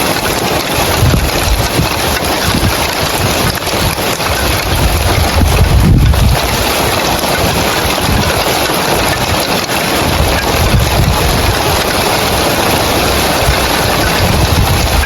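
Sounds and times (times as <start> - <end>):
heavy rain on roof tiles: 0.0 - 15.0.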